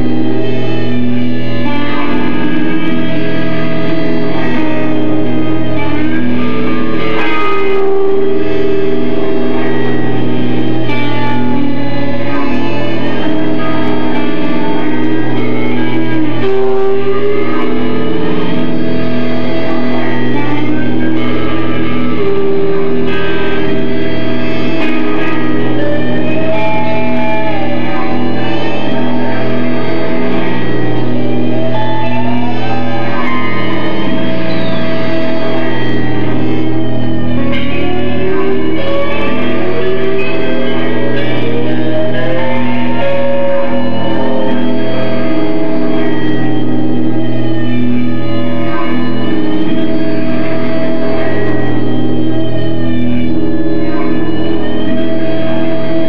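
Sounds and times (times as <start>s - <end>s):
guitar with echo effects: 0.0s - 56.0s
sustained low notes: 0.0s - 56.0s.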